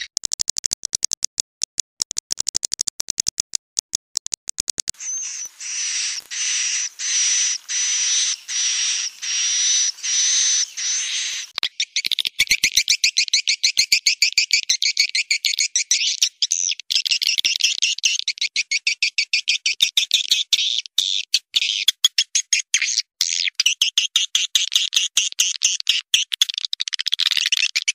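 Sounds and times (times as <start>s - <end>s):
fast chattering twitter: 4.9s - 27.9s
buzzy bird chirps: 5.0s - 27.9s.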